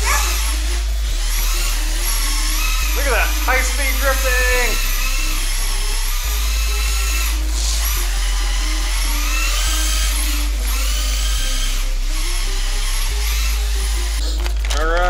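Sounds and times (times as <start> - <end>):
rc car electric motor whining: 0.0 - 15.0.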